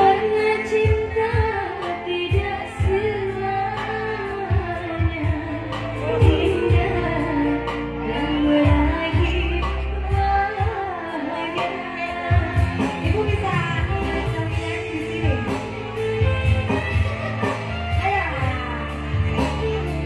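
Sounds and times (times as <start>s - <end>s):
backing music with bass: 0.0s - 20.0s
woman singing into a microphone: 0.0s - 20.0s.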